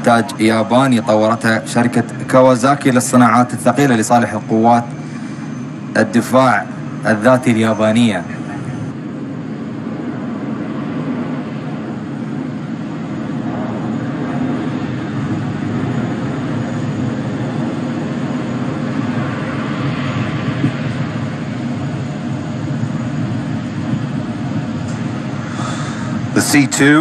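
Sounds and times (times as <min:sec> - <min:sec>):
jet aircraft overhead: 0:00.0 - 0:27.0.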